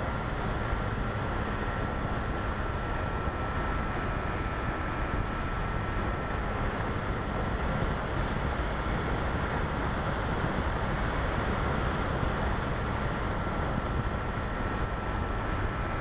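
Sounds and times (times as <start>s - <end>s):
wind noise over camera: 0.0s - 16.0s.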